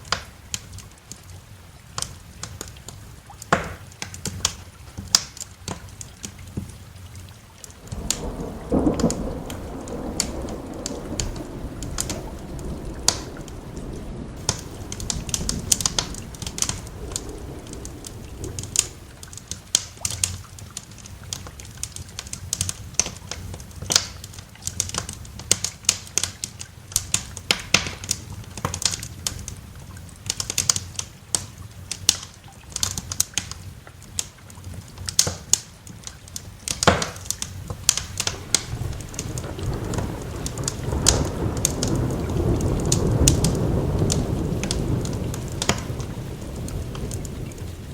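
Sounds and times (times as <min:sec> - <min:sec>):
rain rumbling: 0:00.0 - 0:47.9
wood fire crackling: 0:00.0 - 0:47.9.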